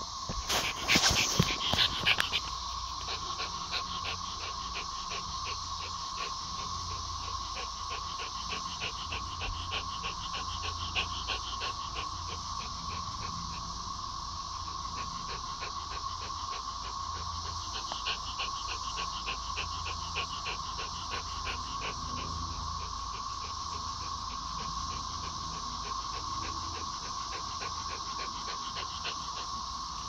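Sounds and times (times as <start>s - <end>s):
cicadas droning: 0.0s - 30.0s
dog panting quickly: 0.3s - 30.0s.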